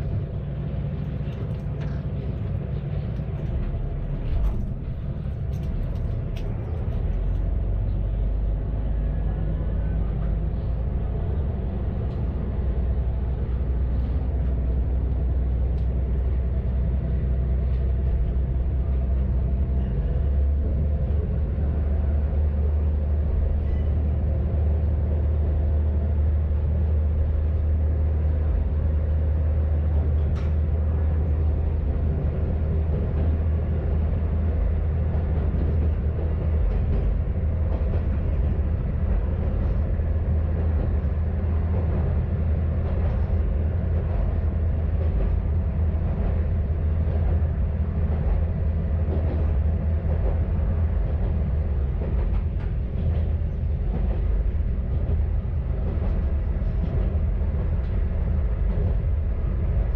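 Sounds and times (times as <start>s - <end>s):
diesel railcar running: 0.0s - 59.9s.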